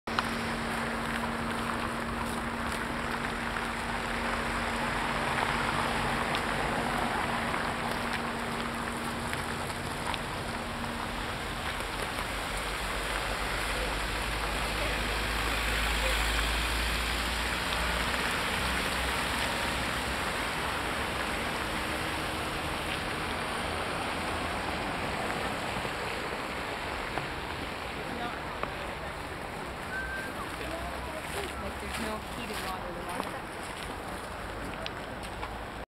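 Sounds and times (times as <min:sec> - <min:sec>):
cars passing on slushy street: 0:00.1 - 0:35.8.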